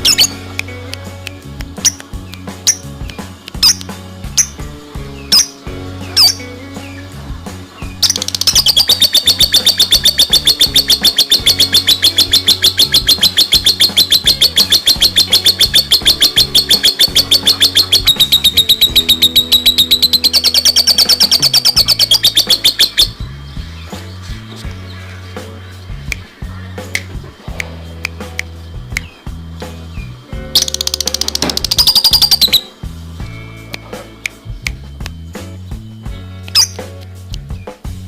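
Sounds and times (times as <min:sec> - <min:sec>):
songbird rapid trill: 0:00.0 - 0:37.9.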